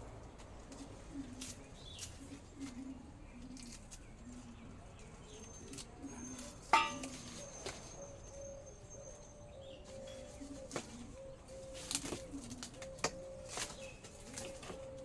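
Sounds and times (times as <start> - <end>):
birds cooing: 0.8 - 15.0.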